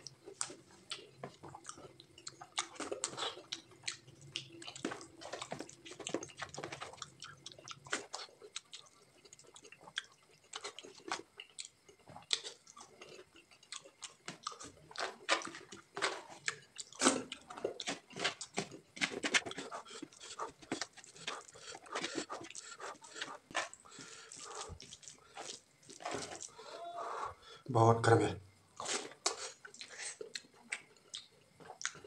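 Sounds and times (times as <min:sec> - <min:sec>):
wet chewing and lip smacking: 0:00.2 - 0:26.6, 0:28.8 - 0:32.0.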